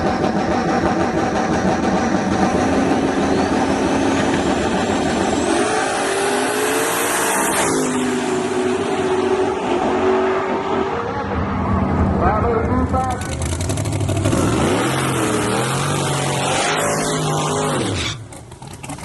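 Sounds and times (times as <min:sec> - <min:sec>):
high whine: 0:00.0 - 0:18.0
truck engine running loud: 0:00.0 - 0:19.0.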